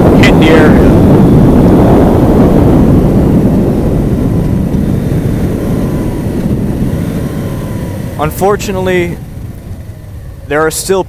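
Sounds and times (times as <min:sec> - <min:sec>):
faint steady whine: 0:00.0 - 0:11.0
motorcycle engine: 0:00.0 - 0:11.0
wind noise on microphone: 0:00.0 - 0:11.0.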